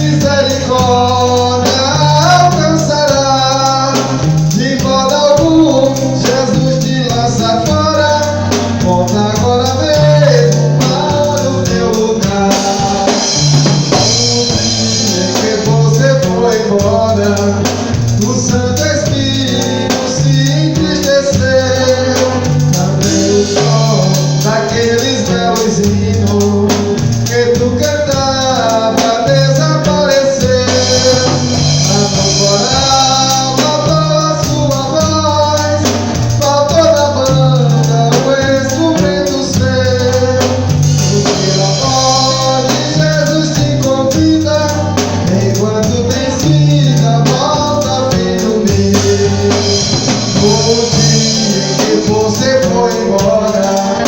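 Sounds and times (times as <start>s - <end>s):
band with drum kit: 0.0s - 54.0s
bass line: 0.0s - 54.0s
person singing melody: 0.0s - 54.0s.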